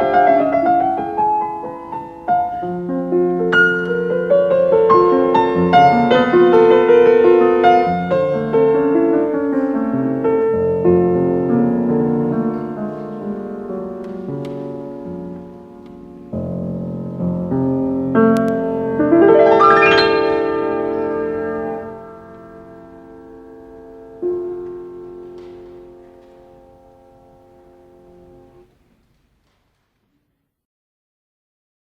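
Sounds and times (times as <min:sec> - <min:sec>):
piano music: 0:00.0 - 0:28.6.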